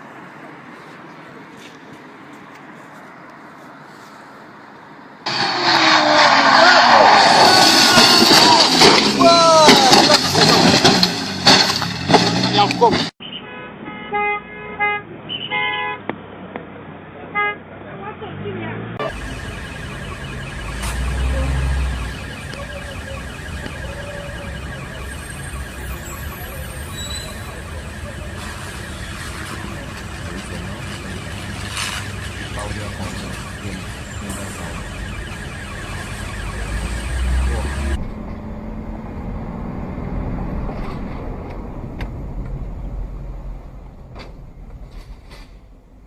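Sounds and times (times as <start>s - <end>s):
road vehicle engine rumble: 0.0s - 13.2s, 15.0s - 46.0s.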